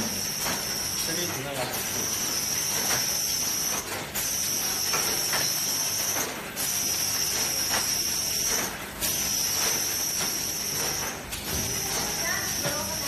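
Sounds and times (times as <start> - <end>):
overwrapping machine hissing: 0.0 - 13.0.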